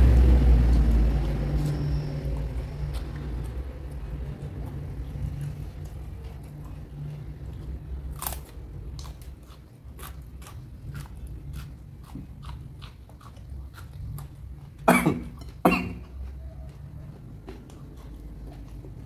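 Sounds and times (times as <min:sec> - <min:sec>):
chewing crunchy food: 0:00.6 - 0:19.0.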